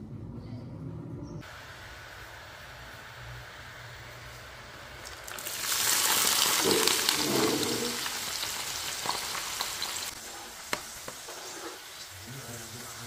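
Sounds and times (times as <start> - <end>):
food sizzling in hot oil: 1.5 - 13.0.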